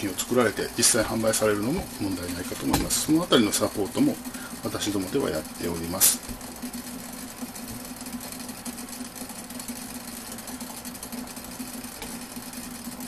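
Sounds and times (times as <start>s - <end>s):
water boiling with bubbles crackling: 0.0s - 13.0s.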